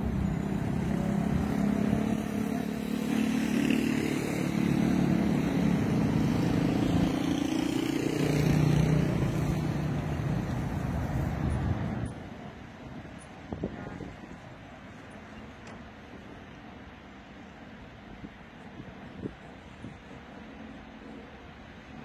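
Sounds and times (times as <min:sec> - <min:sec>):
vehicle engines humming: 0:00.0 - 0:17.8.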